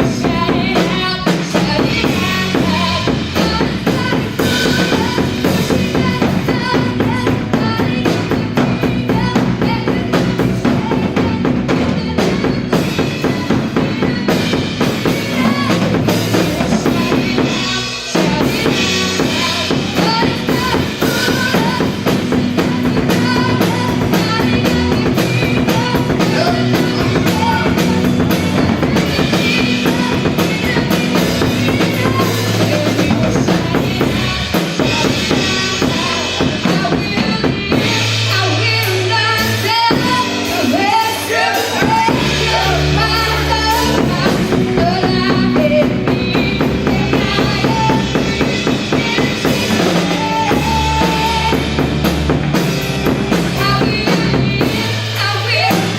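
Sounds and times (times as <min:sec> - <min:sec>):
bass guitar: 0:00.0 - 0:55.9
drum kit beat: 0:00.0 - 0:55.9
keyboard: 0:00.0 - 0:55.9.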